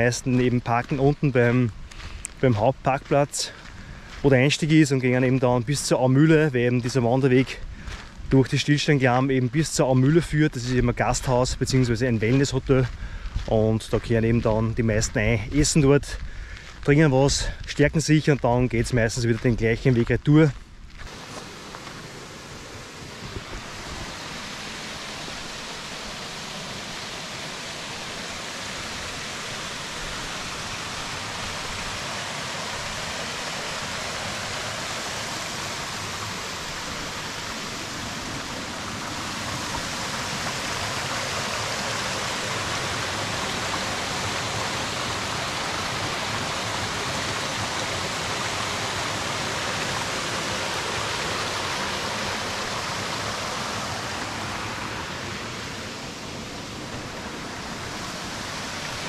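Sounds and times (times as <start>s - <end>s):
stream and waterfalls rushing: 0.0s - 59.0s.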